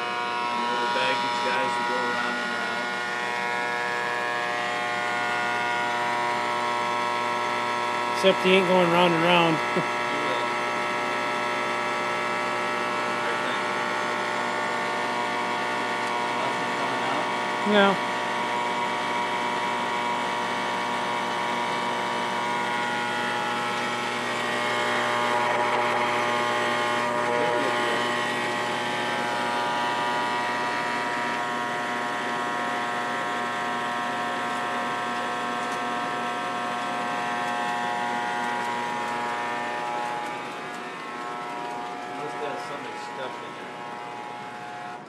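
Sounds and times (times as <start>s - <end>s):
model train motors whirring: 0.0s - 45.0s.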